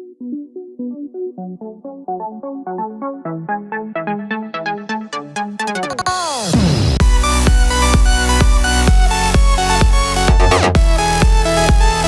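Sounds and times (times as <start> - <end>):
electronic dance music: 1.4 - 12.0.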